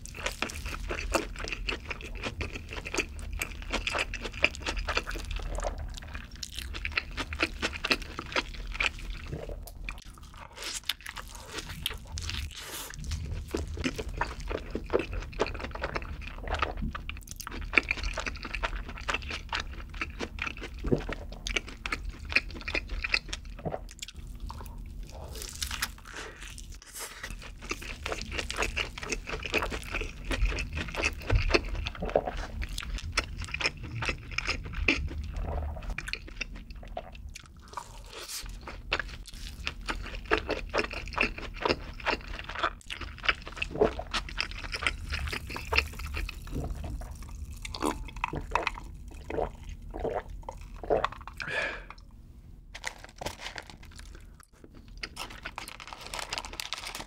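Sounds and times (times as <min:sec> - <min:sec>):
chewing food: 0:00.0 - 0:52.2, 0:52.8 - 0:57.0.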